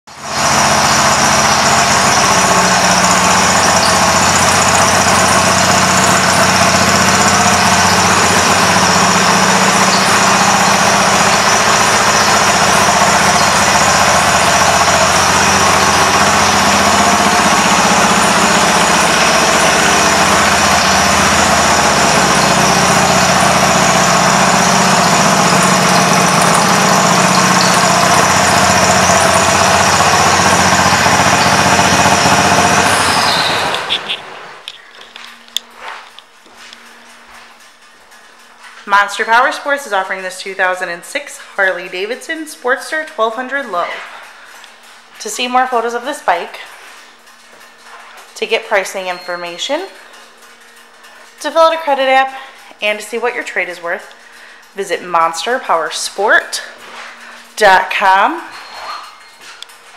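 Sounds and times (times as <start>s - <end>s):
motorcycle engine idling: 0.1s - 35.4s, 36.4s - 59.9s.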